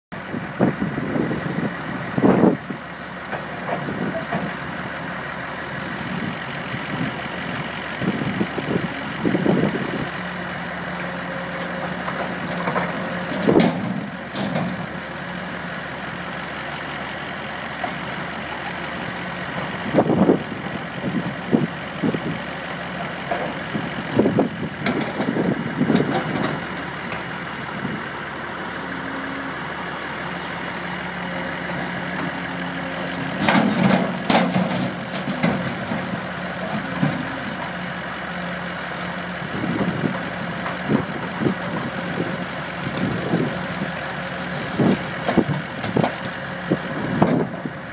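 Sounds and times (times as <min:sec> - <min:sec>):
excavator diesel engine: 0:00.1 - 0:47.9
truck engine idling: 0:00.1 - 0:47.9.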